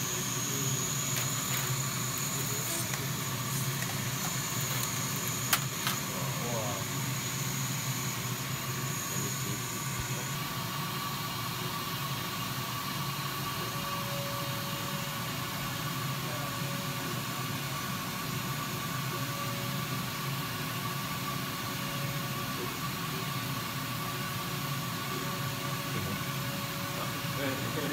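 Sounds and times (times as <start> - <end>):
laser cutter fans whirring: 0.0 - 27.9.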